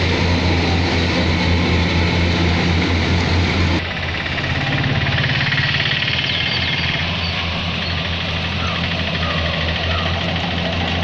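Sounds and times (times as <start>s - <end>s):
combine harvester engine humming: 0.0s - 11.0s.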